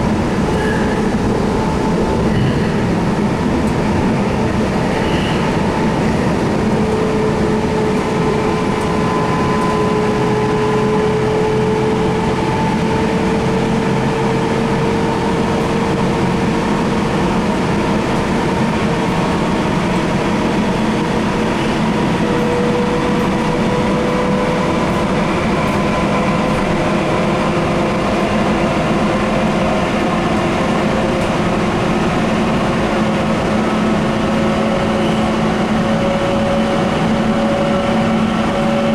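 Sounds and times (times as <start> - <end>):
train motor whine: 0.0 - 38.9
train wheels rumbling: 0.0 - 38.9.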